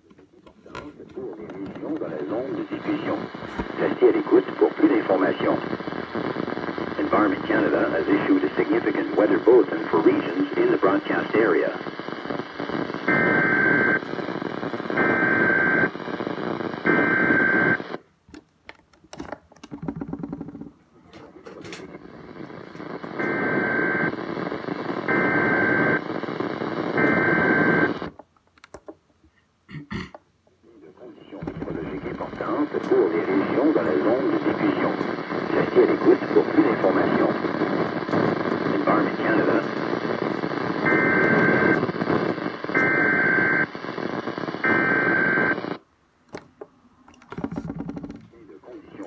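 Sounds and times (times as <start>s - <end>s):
radio static: 0.1s - 18.0s, 19.7s - 28.2s, 30.6s - 45.8s, 47.3s - 49.0s.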